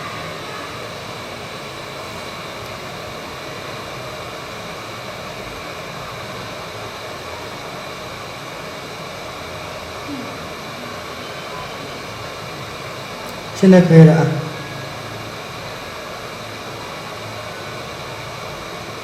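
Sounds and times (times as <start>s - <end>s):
hot air station hissing: 0.0s - 19.0s.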